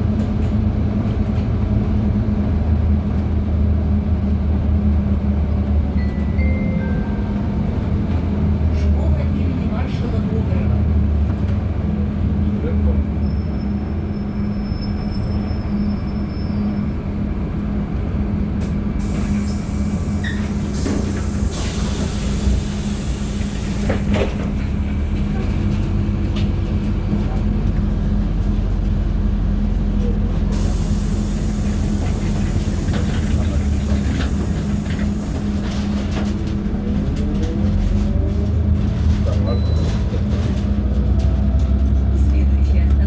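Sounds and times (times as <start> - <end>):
bus engine drone: 0.0 - 43.0.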